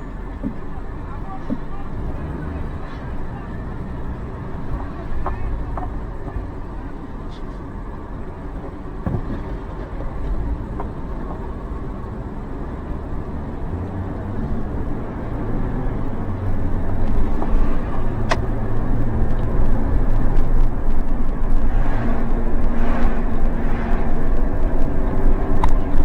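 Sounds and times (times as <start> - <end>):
car engine hum: 0.0 - 26.0
road rumble: 0.0 - 26.0.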